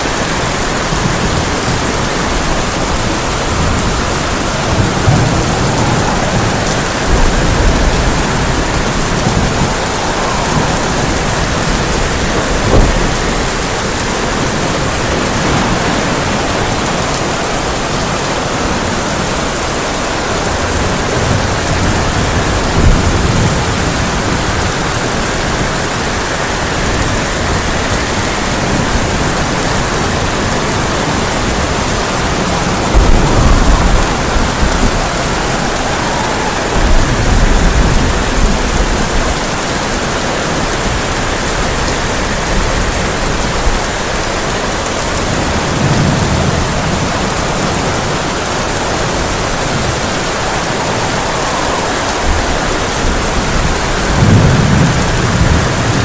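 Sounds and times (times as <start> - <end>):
heavy rain on a tin roof: 0.0 - 56.0
thunder rolling: 0.0 - 56.0.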